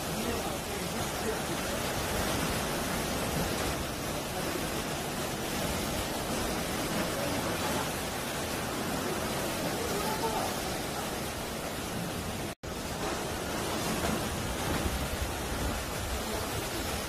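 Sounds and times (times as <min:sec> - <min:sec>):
sea waves surging over rocks: 0:00.0 - 0:17.0.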